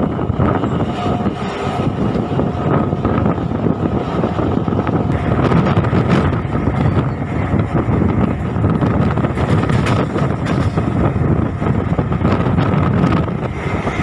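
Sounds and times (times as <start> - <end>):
train rumbling along track: 0.0 - 14.0.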